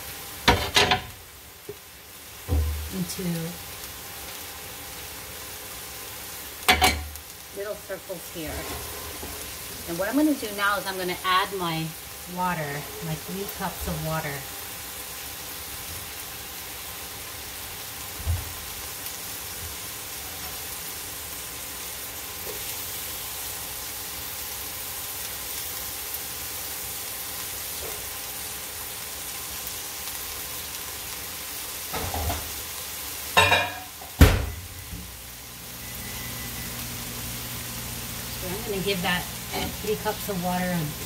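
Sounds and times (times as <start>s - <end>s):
meat sizzling in a frying pan: 0.0s - 41.0s.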